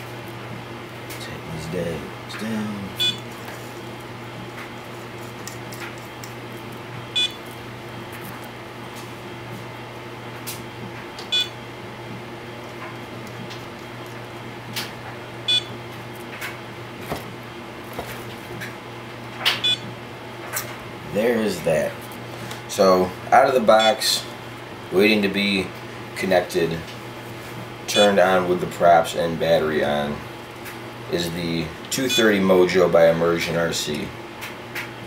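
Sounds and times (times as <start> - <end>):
steady low hum: 0.0 - 34.4.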